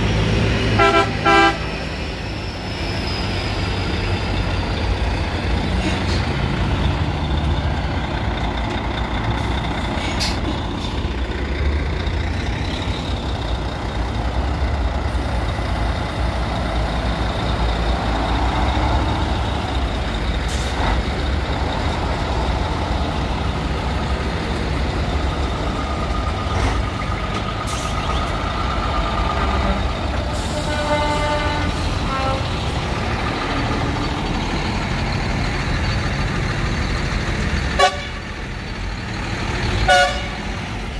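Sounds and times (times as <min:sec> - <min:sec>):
diesel truck engines: 0:00.0 - 0:40.9.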